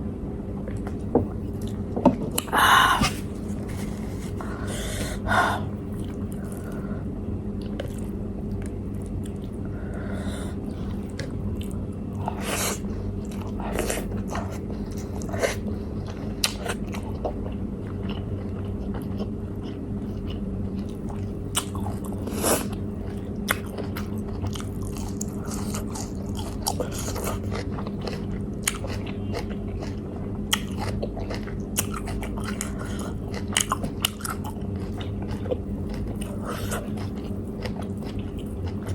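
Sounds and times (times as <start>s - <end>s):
steady low hum: 0.0s - 38.9s
chewing and crunching: 7.6s - 38.9s.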